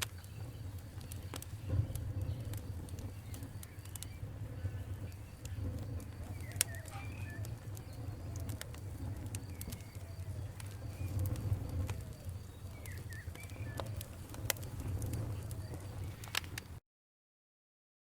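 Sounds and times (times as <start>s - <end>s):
fire popping: 0.0s - 16.8s
wood fire crackling: 0.0s - 16.8s
faint whistling chirps: 0.1s - 16.4s.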